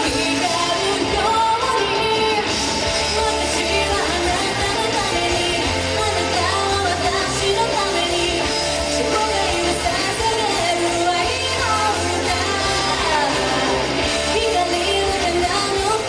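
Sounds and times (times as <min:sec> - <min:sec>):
pop-rock band backing: 0:00.0 - 0:16.0
woman singing: 0:00.0 - 0:16.0.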